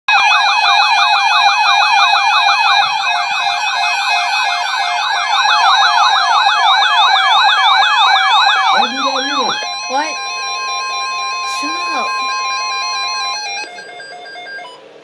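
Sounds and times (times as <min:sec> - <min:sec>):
electronic alert siren yelping: 0:00.1 - 0:14.8.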